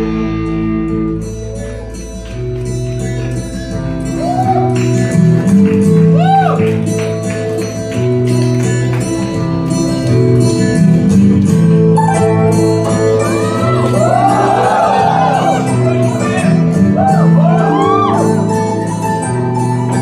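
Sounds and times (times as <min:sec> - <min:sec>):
black metal band playing live: 0:00.0 - 0:20.0.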